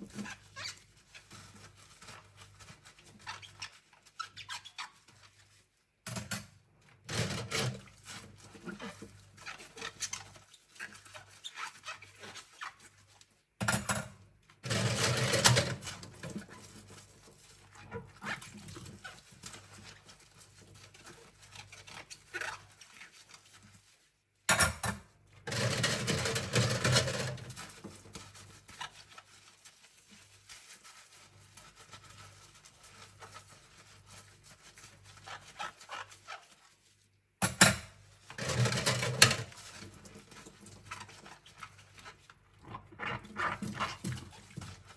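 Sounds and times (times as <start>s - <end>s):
sponge scrubbing: 0.0s - 5.8s, 7.3s - 13.2s, 15.0s - 24.3s, 25.7s - 37.2s, 38.2s - 44.9s.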